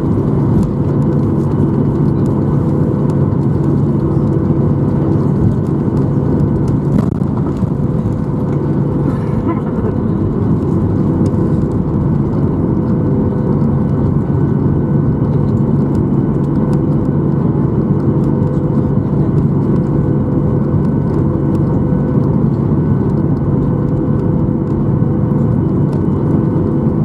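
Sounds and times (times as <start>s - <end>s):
airplane cabin hum: 0.0s - 27.0s.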